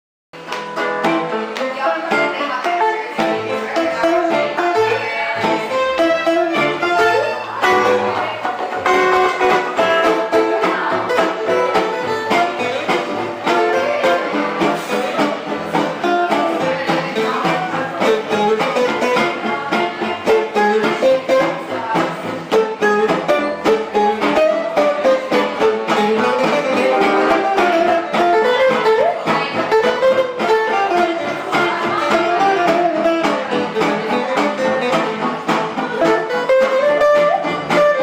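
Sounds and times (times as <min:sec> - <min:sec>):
live band with guitars: 0:00.4 - 0:38.0.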